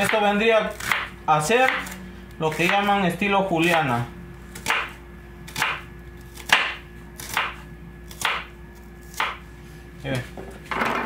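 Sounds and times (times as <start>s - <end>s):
knife slicing onion on board: 0.0s - 3.0s, 3.6s - 9.4s.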